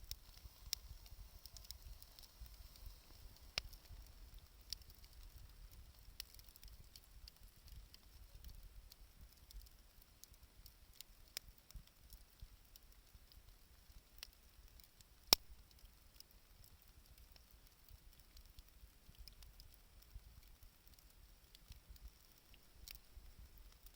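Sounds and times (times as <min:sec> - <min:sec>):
campfire crackling: 0:00.0 - 0:23.9.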